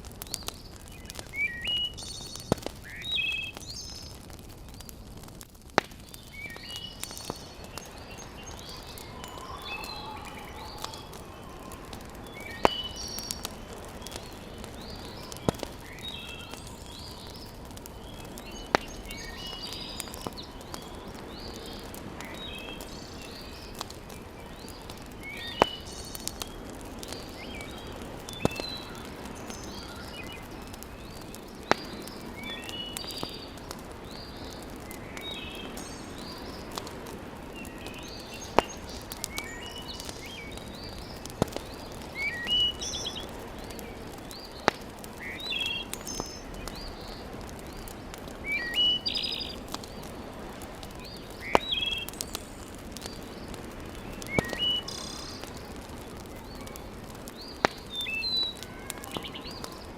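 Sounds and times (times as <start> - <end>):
wood fire hissing and popping: 0.0 - 59.9
birds chirping: 0.2 - 50.2, 50.9 - 59.9.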